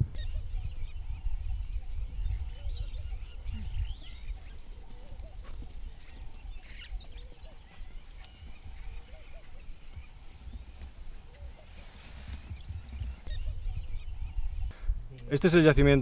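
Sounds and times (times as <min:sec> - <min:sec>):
bird chirps and calls: 0:00.0 - 0:15.3
wind buffeting microphone: 0:00.0 - 0:16.0.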